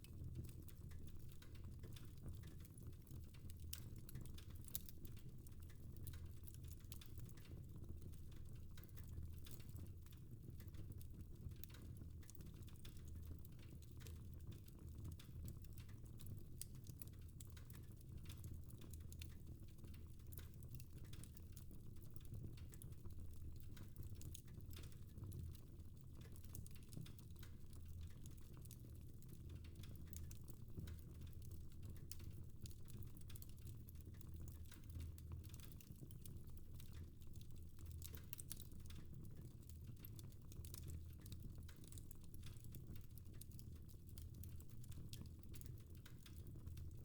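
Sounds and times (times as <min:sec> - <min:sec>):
fire crackling with small pops: 0:00.0 - 0:47.0.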